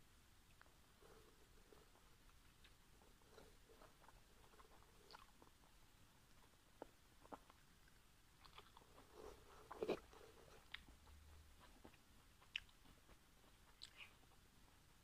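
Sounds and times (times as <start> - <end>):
person chewing food: 0.5 - 15.0.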